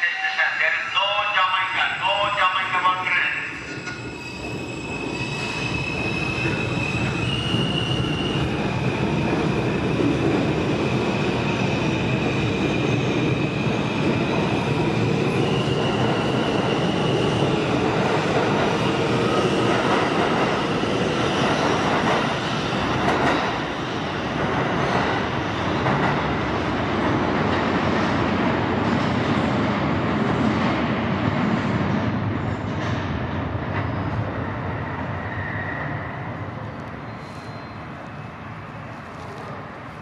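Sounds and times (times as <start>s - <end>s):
subway wheels squealing: 1.6s - 26.4s, 32.4s - 40.0s.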